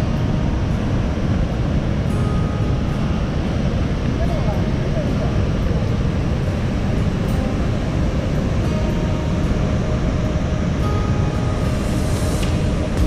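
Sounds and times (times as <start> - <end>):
faint music tones: 0.0 - 13.0.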